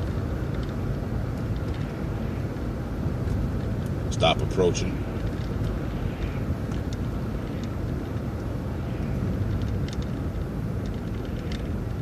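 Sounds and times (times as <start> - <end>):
city bus engine and road rumble: 0.0 - 12.0.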